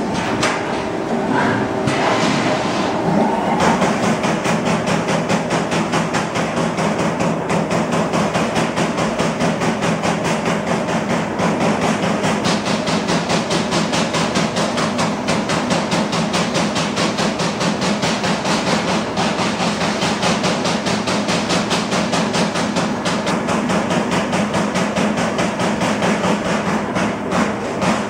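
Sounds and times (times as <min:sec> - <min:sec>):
punch press punching sheet metal: 0:00.0 - 0:01.0, 0:01.6 - 0:28.0
machine hum: 0:00.0 - 0:28.0.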